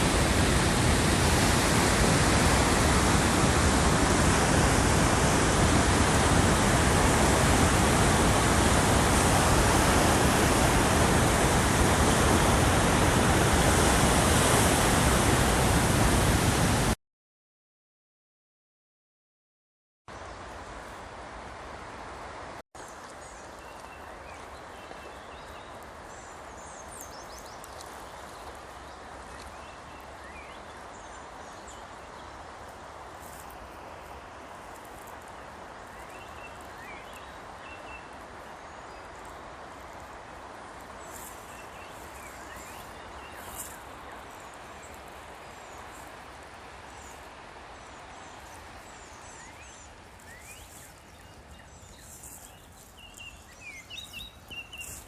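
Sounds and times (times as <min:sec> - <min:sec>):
outdoor background hiss: 0:00.0 - 0:16.9, 0:20.1 - 0:55.0.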